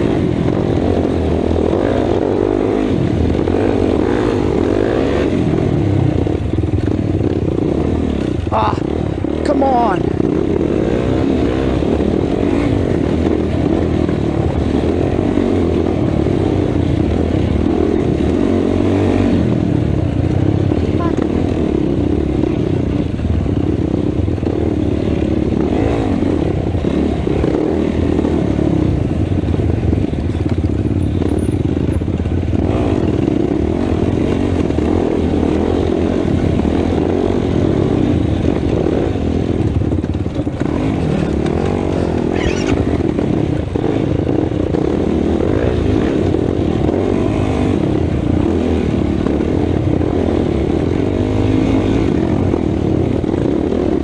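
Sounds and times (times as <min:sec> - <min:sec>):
quad bike engine running hard: 0:00.0 - 0:54.0.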